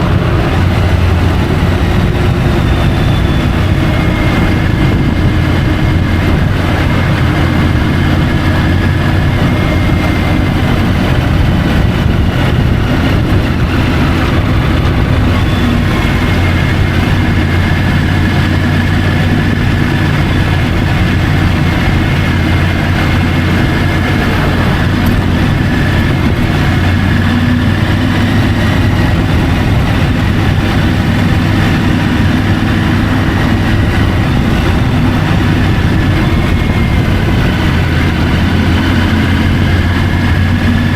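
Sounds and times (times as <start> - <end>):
constant rushing noise: 0.0 - 40.9
motorcycle engine running: 0.0 - 40.9.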